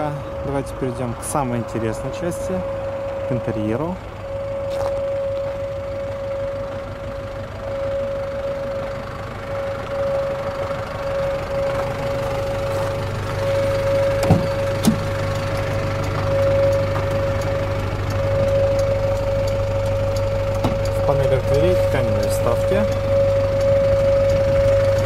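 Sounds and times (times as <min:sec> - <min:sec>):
constant whining tone: 0:00.0 - 0:25.0
truck engine idling: 0:00.0 - 0:25.0.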